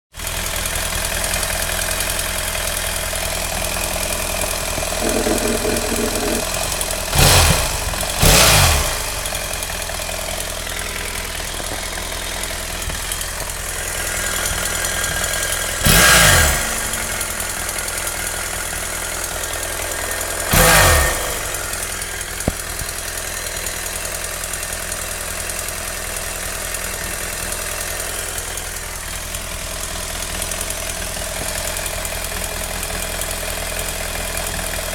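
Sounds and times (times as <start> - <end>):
engine ticking: 0.2 - 34.9
motorcycle engine idling: 0.2 - 34.9
motorcycle engine revving: 0.2 - 34.9.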